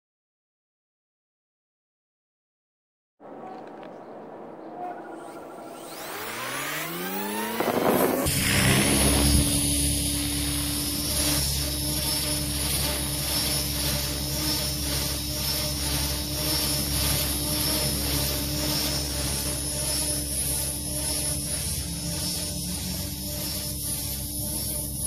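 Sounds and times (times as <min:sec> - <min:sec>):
rc helicopter motor whine: 0:04.8 - 0:25.0.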